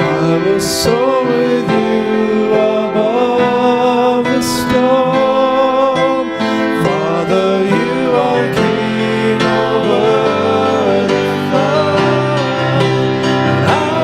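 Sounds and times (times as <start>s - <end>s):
slow worship song: 0.0s - 14.0s.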